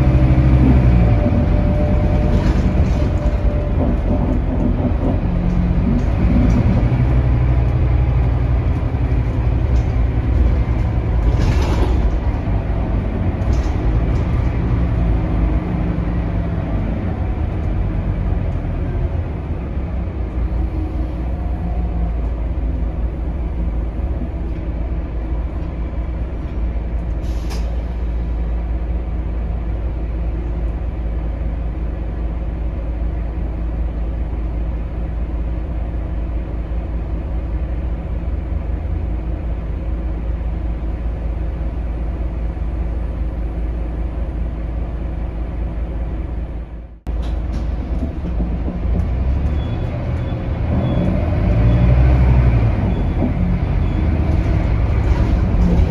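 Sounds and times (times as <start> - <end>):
bus diesel engine rumble: 0.0 - 55.9
road noise: 0.0 - 55.9.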